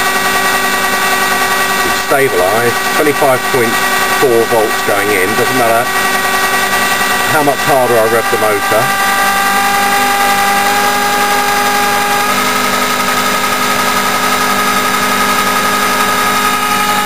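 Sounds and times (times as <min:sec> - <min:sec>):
electric drill whining: 0:00.0 - 0:17.0.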